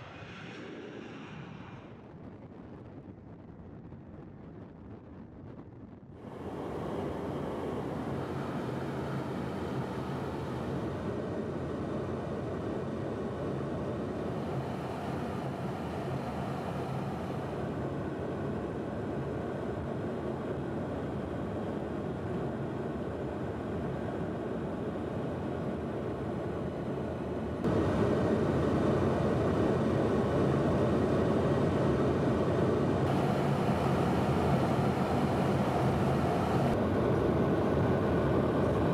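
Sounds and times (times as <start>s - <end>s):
aircraft engines droning: 0.0s - 2.3s, 6.2s - 38.9s.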